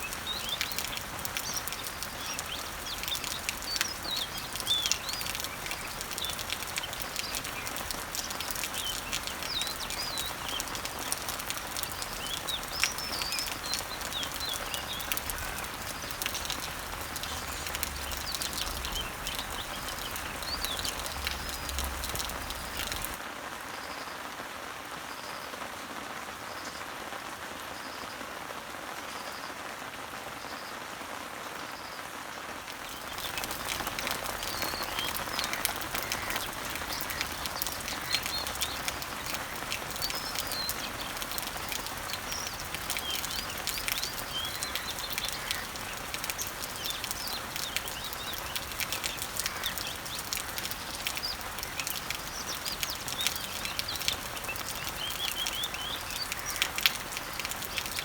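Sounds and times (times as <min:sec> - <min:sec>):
small birds chirping: 0:00.0 - 0:23.2, 0:32.7 - 0:58.0
rain falling on leaves: 0:00.0 - 0:58.0.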